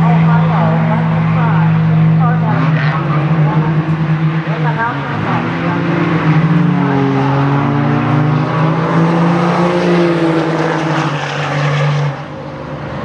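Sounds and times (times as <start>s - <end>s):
diesel truck engines roaring: 0.0s - 13.0s.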